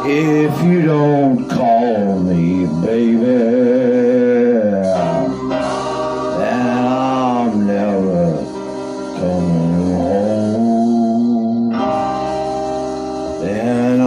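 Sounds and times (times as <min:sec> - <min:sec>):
man singing country song: 0:00.0 - 0:05.4, 0:06.3 - 0:12.1, 0:13.3 - 0:14.0
backing music: 0:00.0 - 0:14.0.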